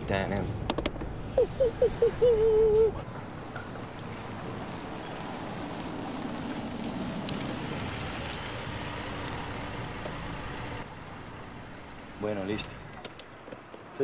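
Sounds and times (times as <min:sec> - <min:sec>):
traffic noise: 0:00.0 - 0:14.0.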